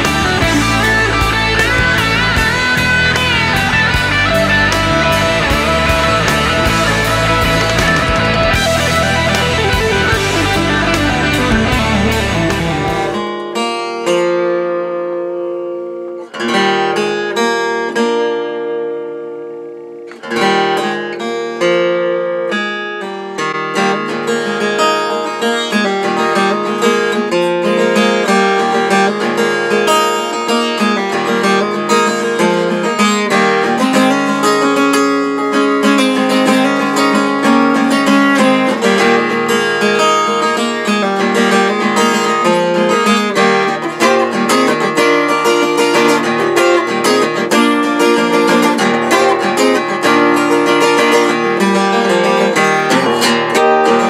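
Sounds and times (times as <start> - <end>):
acoustic guitar: 0.0 - 54.0.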